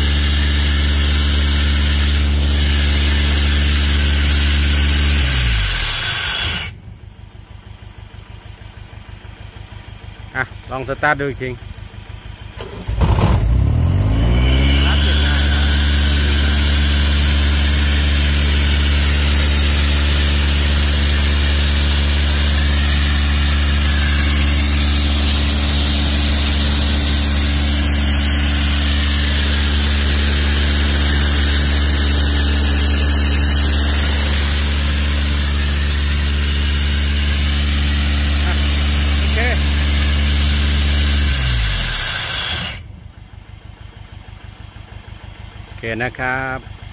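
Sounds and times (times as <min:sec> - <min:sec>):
diesel engine starting: 0:00.0 - 0:46.9.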